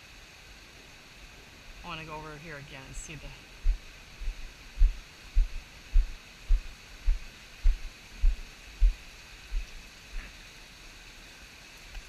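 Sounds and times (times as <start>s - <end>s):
rain hiss: 0.0s - 12.0s.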